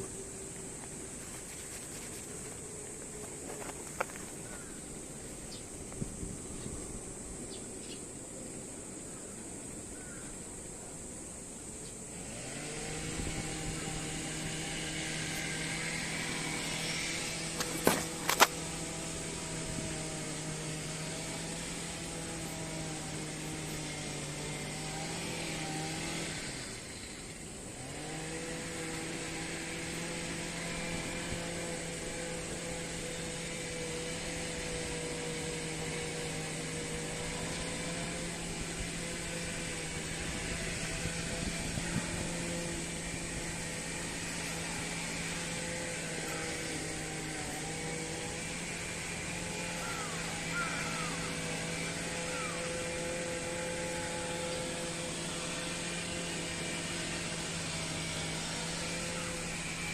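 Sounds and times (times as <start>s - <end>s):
low mechanical drone: 0.0s - 59.9s.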